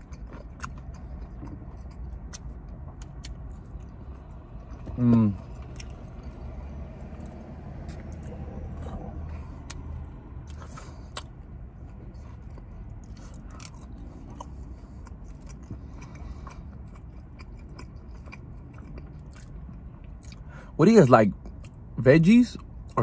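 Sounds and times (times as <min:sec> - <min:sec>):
chewing with wet mouth clicks: 0:00.0 - 0:20.5.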